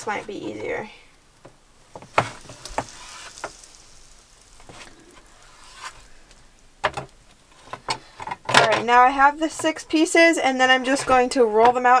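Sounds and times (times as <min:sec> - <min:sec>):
light hiss: 0:00.0 - 0:12.0.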